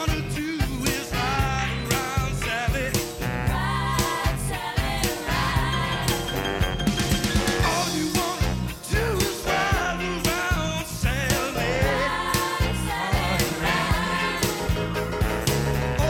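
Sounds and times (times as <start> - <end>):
song with singing over band: 0.0 - 16.0.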